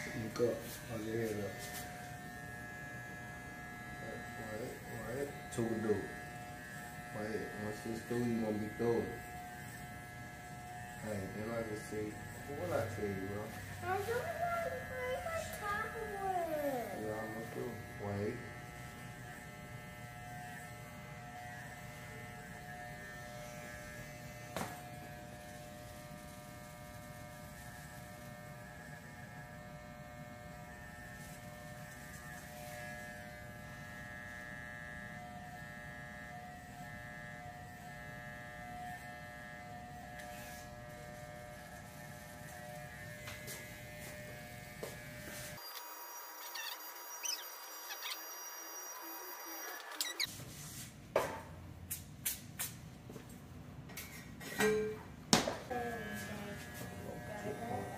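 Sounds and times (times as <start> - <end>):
hair clippers buzzing: 0.0 - 50.3, 54.0 - 57.9.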